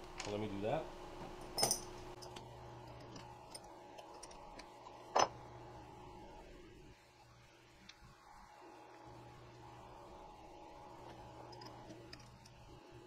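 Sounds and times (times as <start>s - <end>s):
machine low steady hum: 0.0s - 13.0s.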